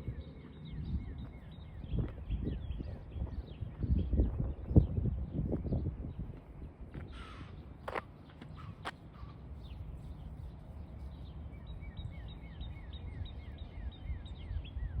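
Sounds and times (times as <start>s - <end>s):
small bird singing: 0.0s - 15.0s
steady low rumble: 0.0s - 15.0s.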